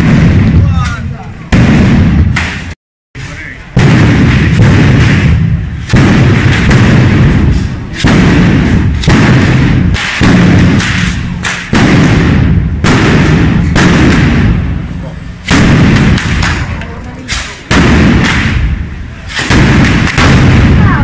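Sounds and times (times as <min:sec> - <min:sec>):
firecrackers banging: 0:00.0 - 0:21.0
rumble of blasts: 0:00.0 - 0:21.0.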